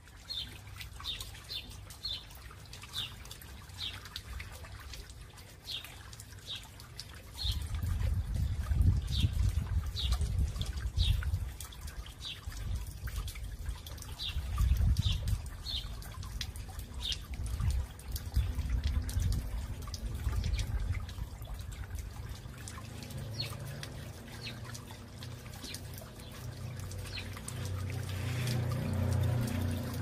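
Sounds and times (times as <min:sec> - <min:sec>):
fountain water trickling over stones: 0:00.0 - 0:30.0.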